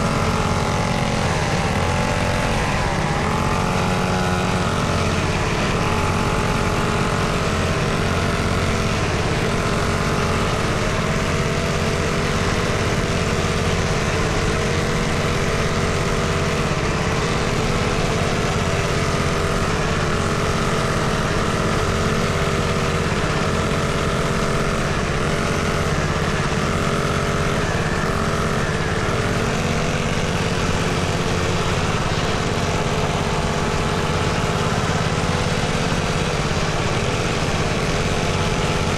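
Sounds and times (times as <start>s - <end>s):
small motorcycle engine running: 0.0s - 38.9s.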